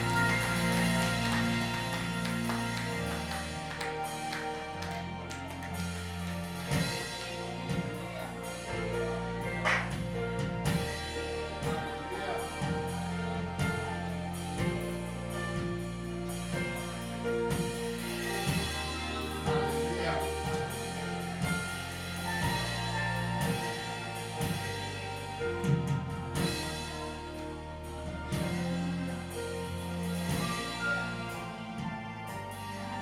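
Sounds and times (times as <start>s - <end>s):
worship band playing: 0.0s - 33.0s.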